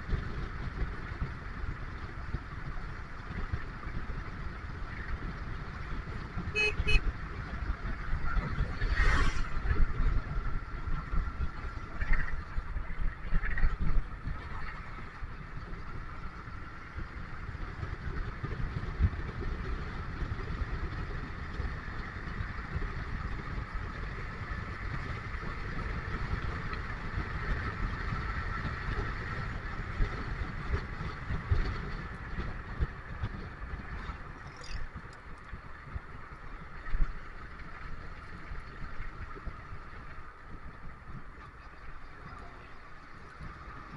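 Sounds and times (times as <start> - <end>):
engine and road rumble: 0.0 - 43.9.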